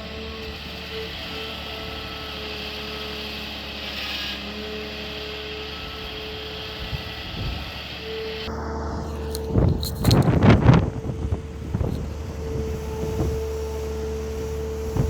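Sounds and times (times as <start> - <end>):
constant whine: 0.0 - 15.0
diesel engine running: 0.0 - 15.0.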